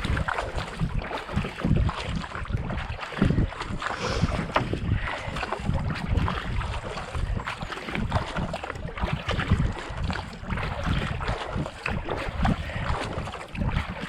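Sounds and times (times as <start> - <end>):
paddle blades splashing in water: 0.0 - 14.0.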